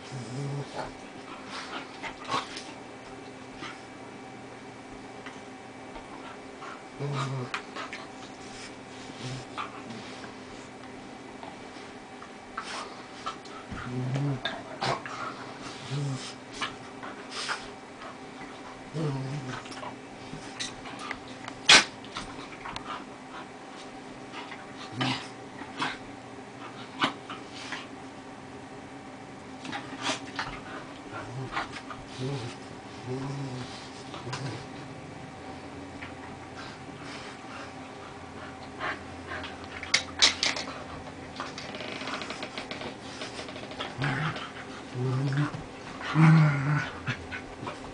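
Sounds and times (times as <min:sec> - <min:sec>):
dogs playing rough: 0:00.0 - 0:28.4, 0:29.5 - 0:47.9.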